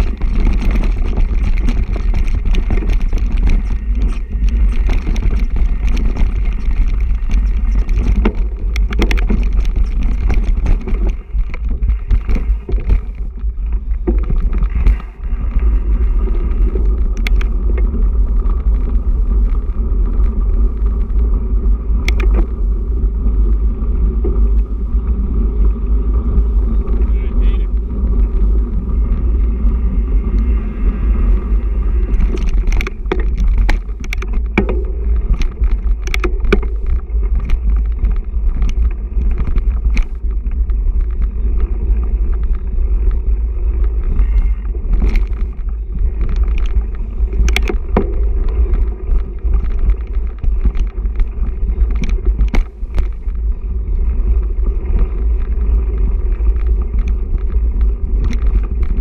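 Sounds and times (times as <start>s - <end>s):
bike knocking and rattling: 0.0s - 59.0s
bike tyres rumbling on gravel: 0.0s - 59.0s.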